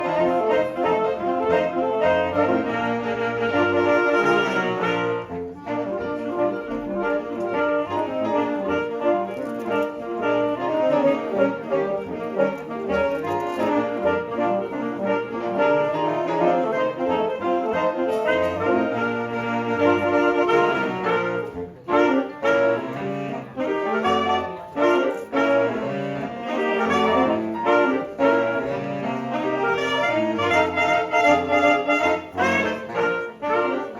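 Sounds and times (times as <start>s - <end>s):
saxophone ensemble playing jazz: 0.0s - 33.9s.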